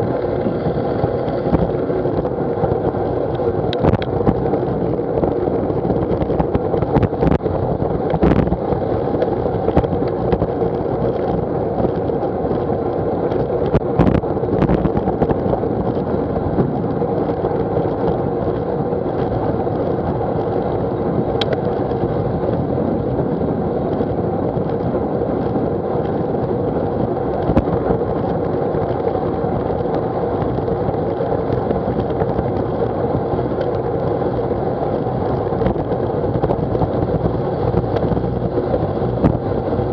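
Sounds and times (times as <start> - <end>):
bicycle knocks and rattles: 0.0 - 39.9
bicycle tyres on wet road: 0.0 - 39.9
wind noise: 0.0 - 39.9.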